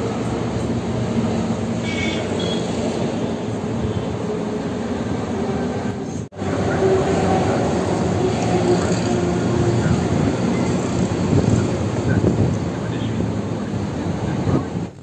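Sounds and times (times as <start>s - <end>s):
heavy vehicle engines and traffic: 0.0s - 15.0s.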